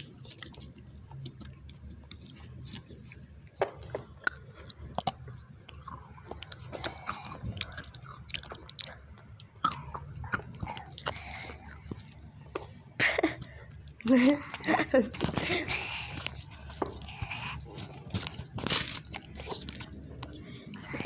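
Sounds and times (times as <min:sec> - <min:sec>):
child chewing a snack: 0:00.0 - 0:21.0.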